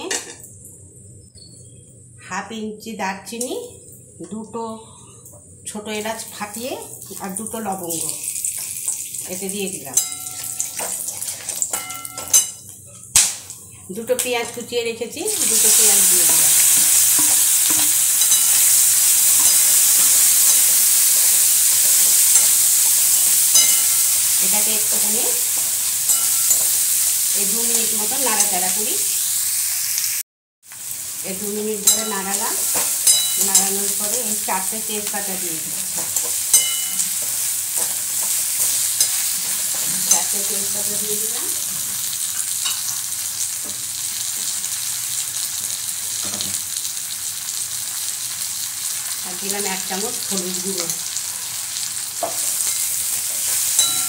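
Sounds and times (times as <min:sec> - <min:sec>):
onions sizzling in hot oil: 0:05.7 - 0:12.5, 0:13.2 - 0:54.0.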